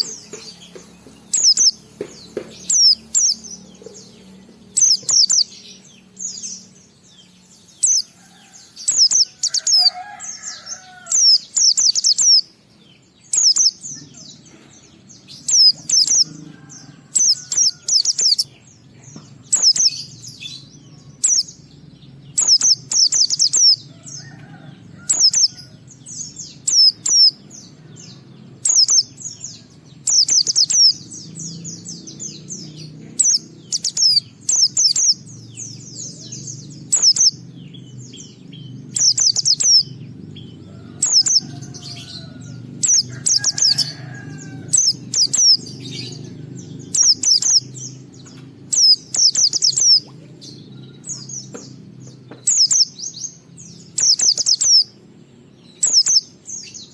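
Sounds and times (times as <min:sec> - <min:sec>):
bird twittering: 0:00.0 - 0:12.6, 0:13.2 - 0:18.6, 0:19.5 - 0:27.4, 0:28.6 - 0:51.7, 0:52.3 - 0:53.0, 0:53.8 - 0:55.0, 0:55.7 - 0:56.8.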